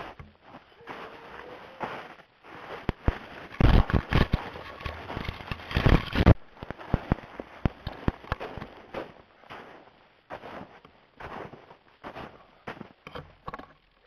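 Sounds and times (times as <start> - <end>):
footsteps crunching through snow: 0.0 - 13.0.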